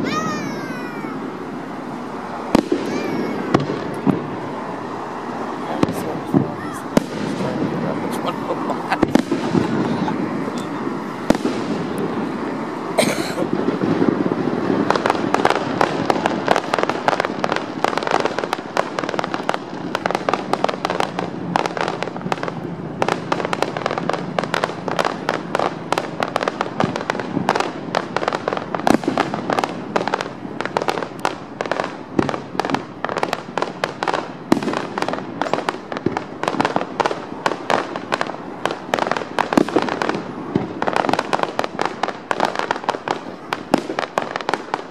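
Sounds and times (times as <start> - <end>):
fireworks bursting: 0.0 - 44.9
fireworks crackling: 0.0 - 44.9.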